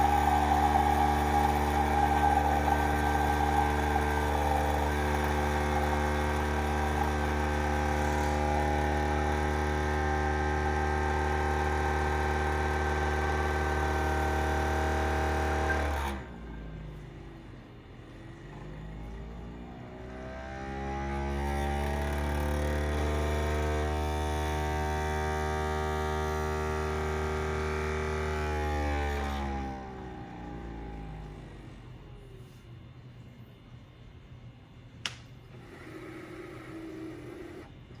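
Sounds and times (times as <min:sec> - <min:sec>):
coffee maker motor whine: 0:00.0 - 0:32.6, 0:35.5 - 0:38.0
quiet whir with shifting pitch: 0:00.0 - 0:38.0.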